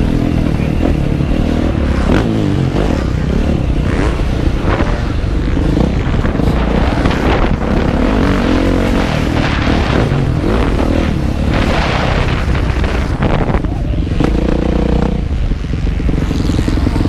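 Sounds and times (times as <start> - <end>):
motorcycle engine revving: 0.0 - 17.0
rushing wind noise: 0.0 - 17.0.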